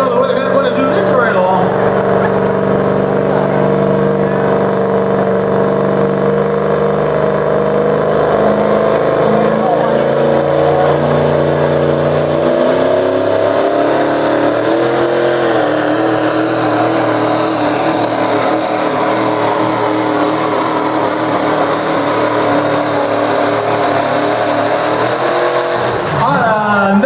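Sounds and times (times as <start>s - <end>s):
diesel truck engine at high revs: 0.0s - 27.0s.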